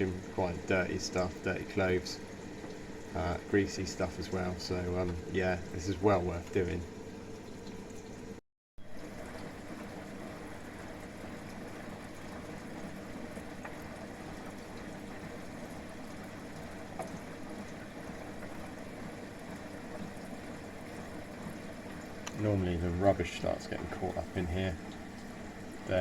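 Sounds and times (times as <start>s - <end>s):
water rushing into washing machine: 0.0s - 26.0s.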